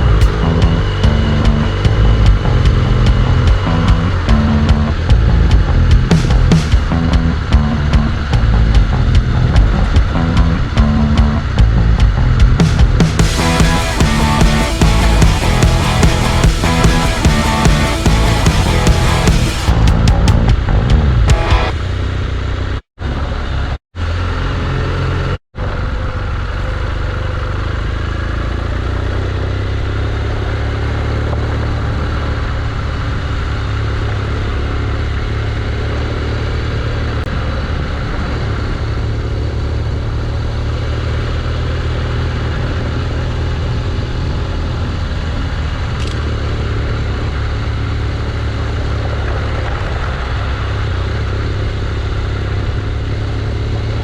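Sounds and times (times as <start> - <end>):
motorcycle engine running: 0.0 - 22.8, 24.2 - 54.0
road noise: 0.0 - 54.0.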